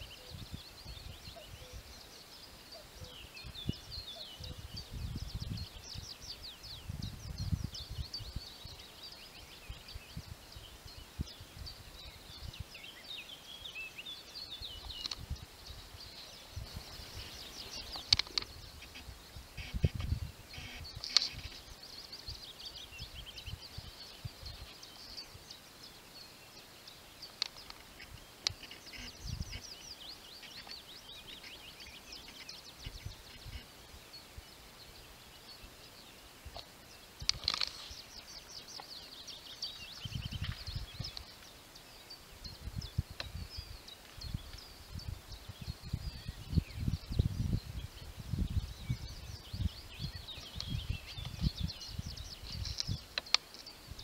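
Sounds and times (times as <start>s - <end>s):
birds singing in chorus: 0.0s - 54.0s.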